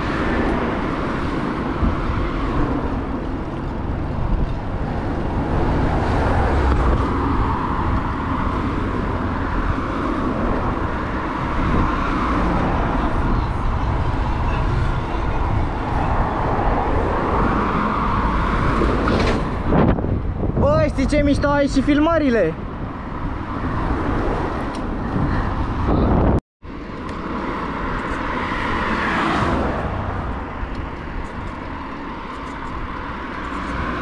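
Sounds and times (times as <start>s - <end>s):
road and traffic rumble: 0.0s - 34.0s
wind rumbling on microphone: 0.0s - 34.0s.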